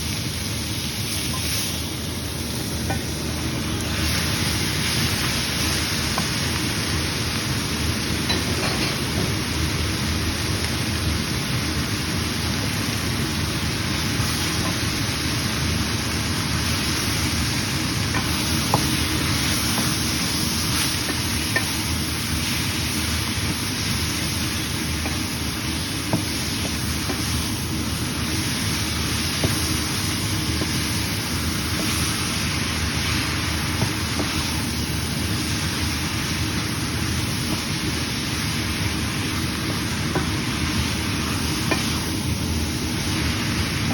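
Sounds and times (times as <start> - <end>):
food sizzling in a hot pan: 0.0 - 43.9.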